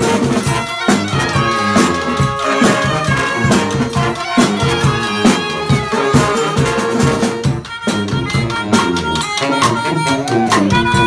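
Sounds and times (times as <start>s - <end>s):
marching drum beat: 0.0s - 8.9s, 10.6s - 11.0s
brass band playing: 0.0s - 11.0s.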